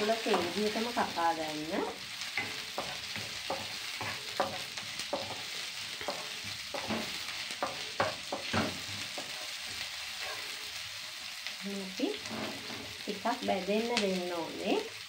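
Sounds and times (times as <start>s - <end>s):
spatula scraping frying pan: 0.0s - 11.3s, 12.0s - 13.2s
onions sizzling in hot oil: 0.0s - 15.0s.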